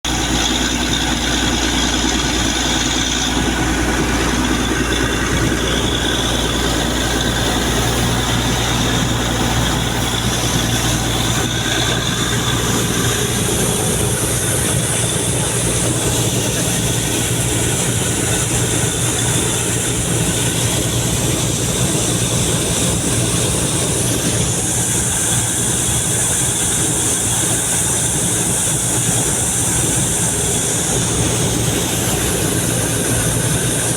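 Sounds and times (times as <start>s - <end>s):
compressor droning: 0.0s - 33.9s
dense rushing noise: 0.0s - 33.9s.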